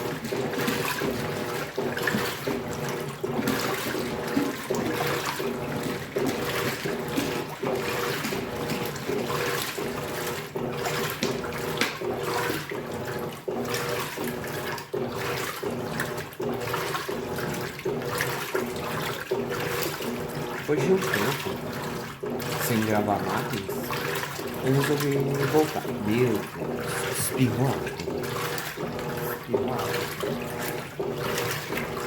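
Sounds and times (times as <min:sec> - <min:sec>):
washing machine motor hum: 0:00.0 - 0:32.0
water churning in washing machine: 0:00.0 - 0:32.0.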